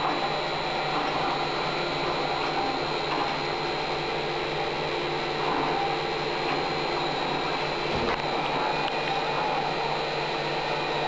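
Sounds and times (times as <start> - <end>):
milling machine whirring: 0.0 - 11.0.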